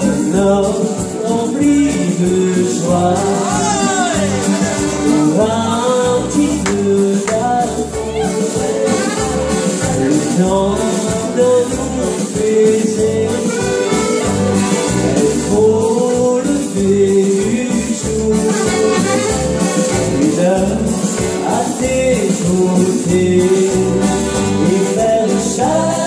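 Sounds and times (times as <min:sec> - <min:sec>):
backing track dance beat: 0:00.0 - 0:25.7
man singing: 0:00.0 - 0:26.0
button accordion playing: 0:00.8 - 0:16.3, 0:16.9 - 0:26.0.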